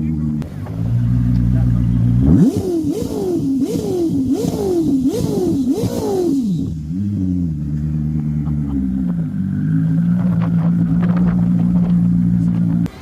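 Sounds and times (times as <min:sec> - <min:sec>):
car engine revving in blips: 0:00.0 - 0:13.0.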